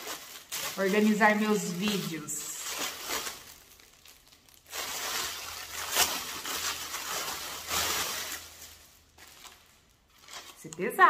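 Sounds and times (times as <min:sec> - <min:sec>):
gift packaging rustling: 0:00.0 - 0:11.0.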